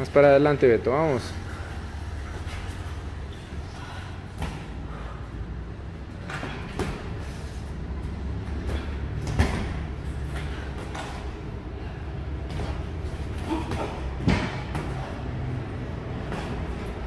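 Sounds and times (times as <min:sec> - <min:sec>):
steady low hum: 0:00.0 - 0:17.0
footwork on ring mat: 0:01.1 - 0:17.0.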